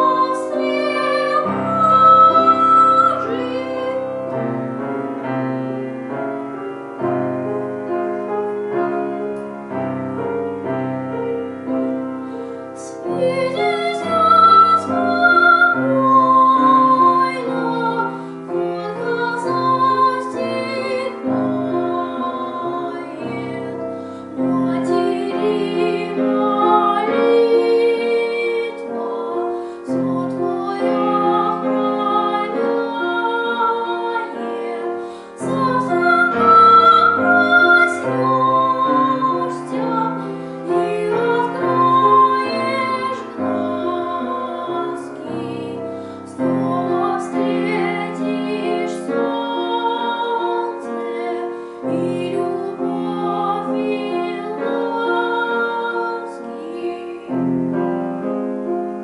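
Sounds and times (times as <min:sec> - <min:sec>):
woman singing a lullaby: 0:00.0 - 0:04.3, 0:12.8 - 0:57.5
piano: 0:00.0 - 0:59.0.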